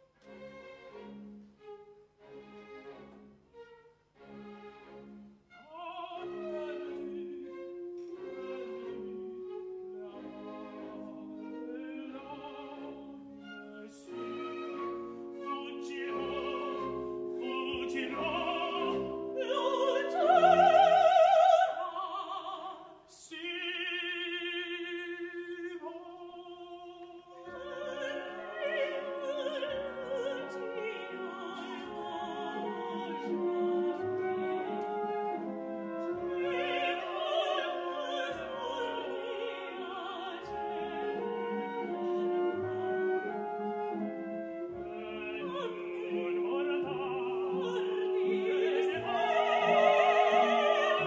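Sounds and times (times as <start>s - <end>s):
instrumental accompaniment: 0.0s - 22.1s, 27.4s - 51.0s
opera duet singing: 5.6s - 51.0s.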